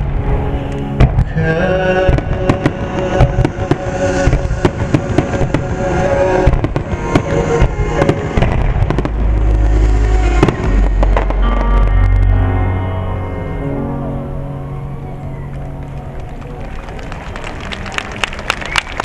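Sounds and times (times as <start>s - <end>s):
music playing: 0.0s - 19.0s.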